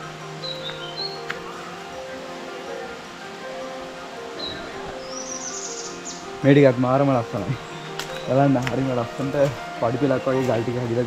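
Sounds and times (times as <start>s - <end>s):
high chirp: 0.0s - 10.8s
background music with held notes: 0.0s - 11.0s.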